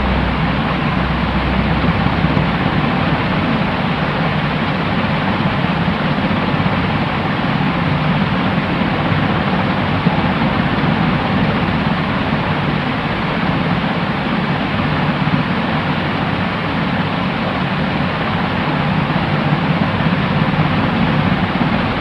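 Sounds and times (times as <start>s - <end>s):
steady white noise hiss: 0.0s - 22.0s.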